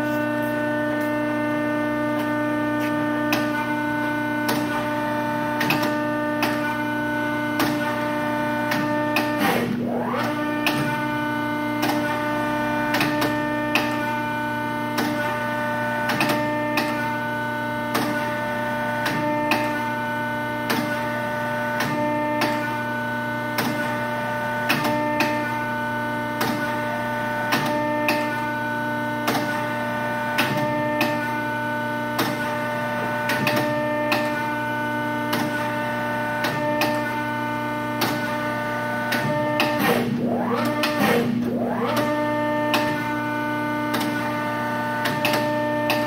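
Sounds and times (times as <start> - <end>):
hydraulic pump humming: 0.0 - 46.0.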